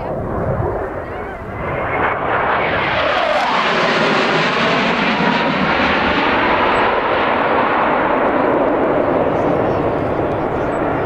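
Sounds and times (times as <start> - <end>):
military jet flying past: 0.0 - 11.0.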